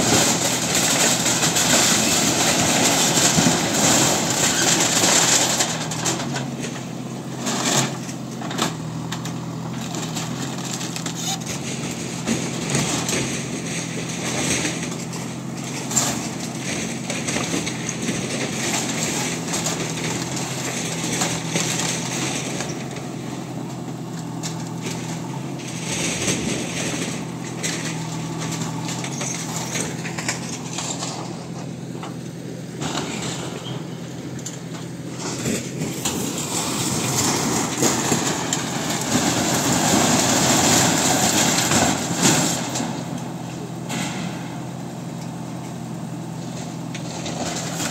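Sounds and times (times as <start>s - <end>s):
metal sheets crunching and clattering: 0.0s - 6.8s, 7.4s - 32.2s, 32.8s - 43.3s, 43.9s - 44.6s
diesel engine running: 0.0s - 47.9s.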